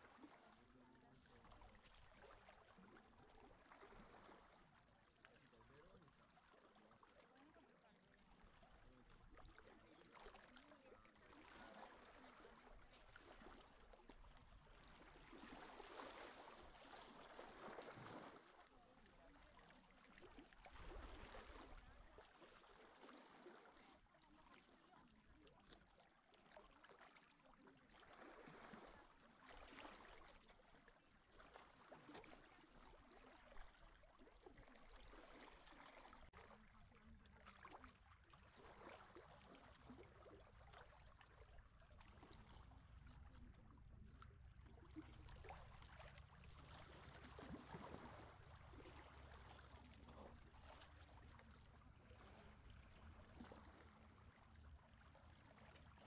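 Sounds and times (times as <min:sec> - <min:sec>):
small waves lapping on shore: 0:00.0 - 0:56.0.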